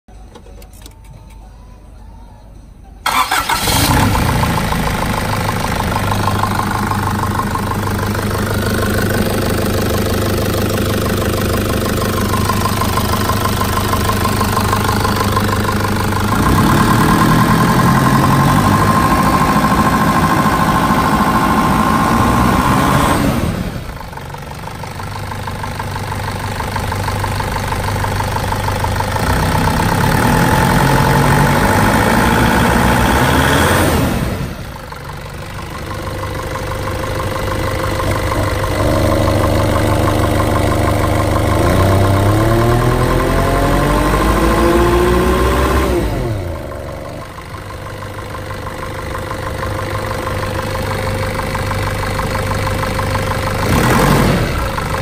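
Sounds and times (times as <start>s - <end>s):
diesel engine starting and idling: 0.1s - 55.0s.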